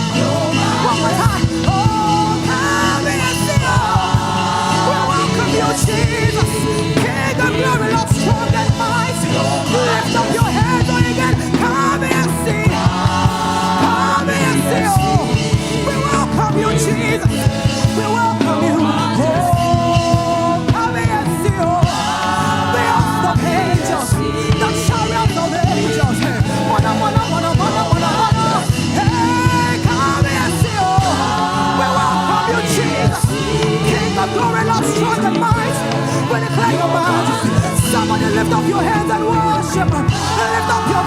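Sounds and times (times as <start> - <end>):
band playing upbeat song: 0.0 - 41.0
drums fast beat: 0.0 - 41.0
voices singing: 0.0 - 41.0.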